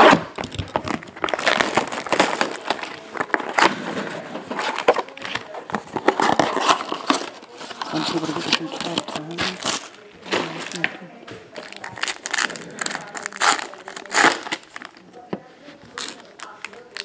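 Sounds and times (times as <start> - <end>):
plastic wrap crinkling and tearing: 0.0 - 15.2, 15.8 - 17.0.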